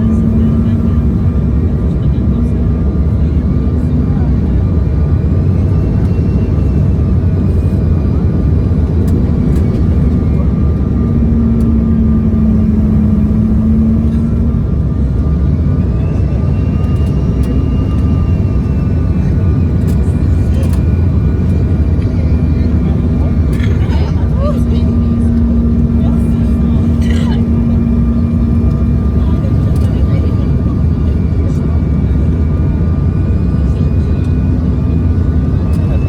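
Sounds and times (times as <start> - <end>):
faint engine whines: 0.0 - 36.0
jet cabin airflow and engine rush: 0.0 - 36.0.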